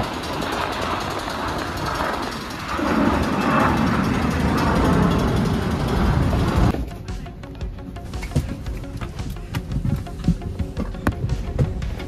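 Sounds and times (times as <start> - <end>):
aircraft and vehicles roaring: 0.0 - 12.0.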